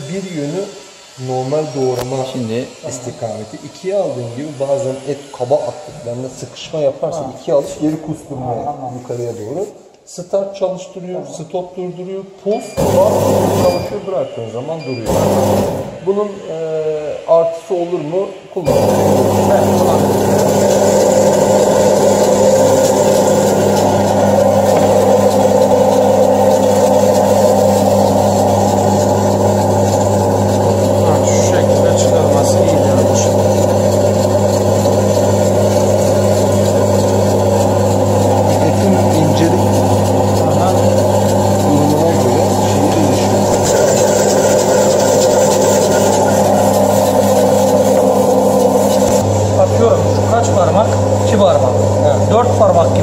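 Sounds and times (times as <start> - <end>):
food slicing machine humming: 0.0 - 6.5, 12.8 - 17.3, 18.6 - 53.0.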